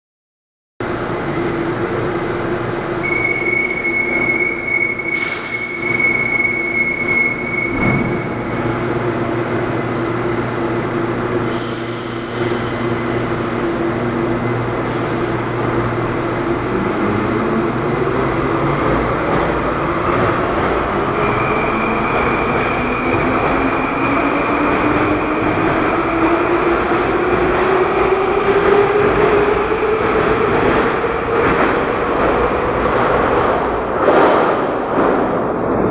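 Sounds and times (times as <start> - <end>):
metro train electric drive hum: 0.9 - 34.1.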